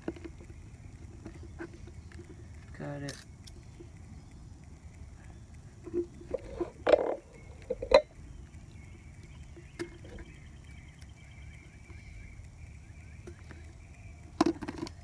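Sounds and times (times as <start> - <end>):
faint high chirping: 0.2 - 15.0.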